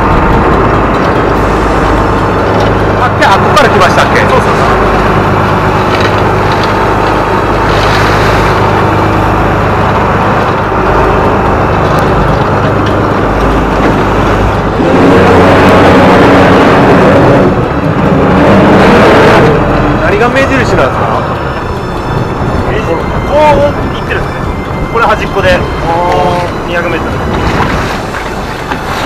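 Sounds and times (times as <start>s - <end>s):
boat engine running: 0.0s - 29.0s
water rushing past hull: 0.0s - 29.0s.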